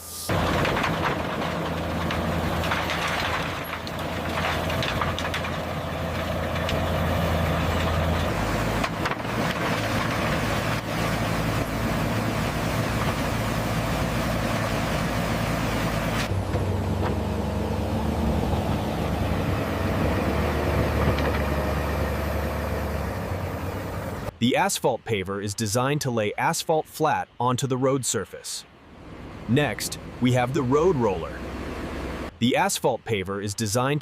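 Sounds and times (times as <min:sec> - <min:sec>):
heavy diesel engines running: 0:00.0 - 0:24.4, 0:28.8 - 0:32.5.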